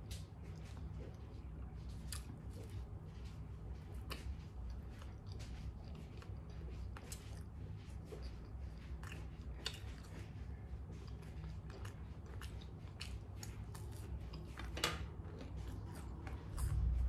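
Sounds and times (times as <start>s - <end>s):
person chewing: 0.0s - 3.0s, 3.6s - 17.0s
low steady hum: 0.0s - 17.0s.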